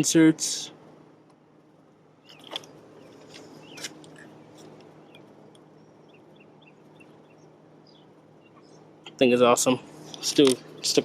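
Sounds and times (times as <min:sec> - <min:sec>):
low steady hum: 0:00.0 - 0:11.0
small birds chirping: 0:02.1 - 0:11.0.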